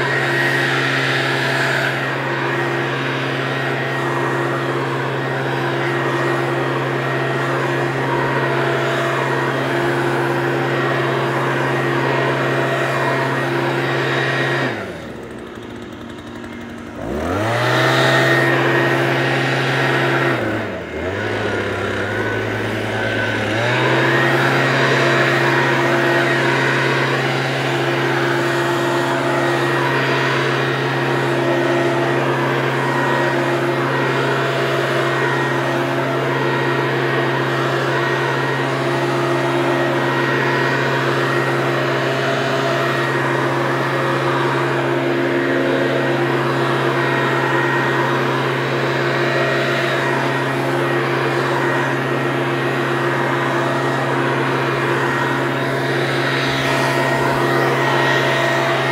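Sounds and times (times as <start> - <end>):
leaf blower running: 0.0 - 58.9.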